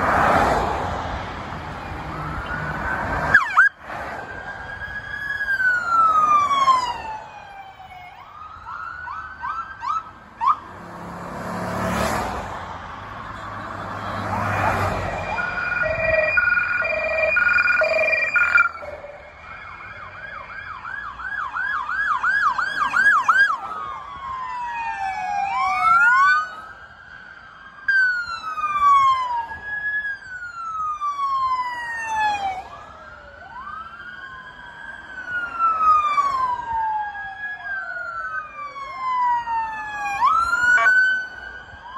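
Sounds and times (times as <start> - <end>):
police sirens wailing and yelping: 0.0 - 10.8, 12.0 - 41.9
passing vehicle rumble: 0.0 - 41.9.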